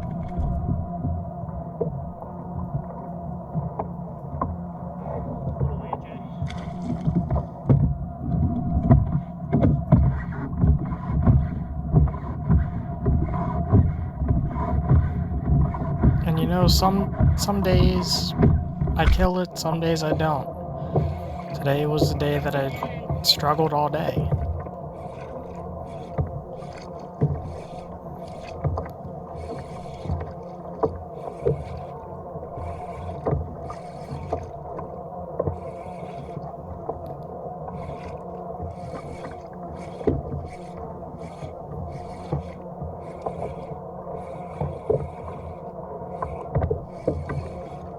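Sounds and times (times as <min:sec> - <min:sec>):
steady low hum: 0:00.0 - 0:47.9
water slapping against kayak hull: 0:00.0 - 0:47.9.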